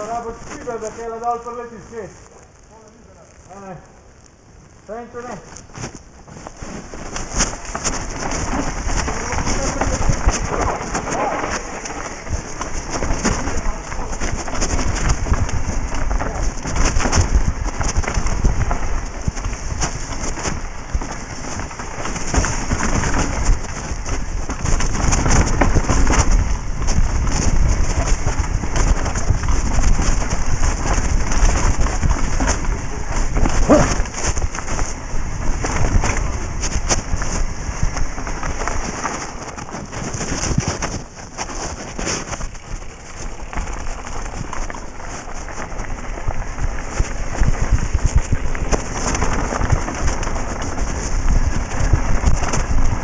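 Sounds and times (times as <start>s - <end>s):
tyres crunching over gravel: 0.0s - 4.1s, 4.9s - 53.0s
bike rattling: 0.0s - 53.0s
wind rushing over microphone: 5.4s - 53.0s.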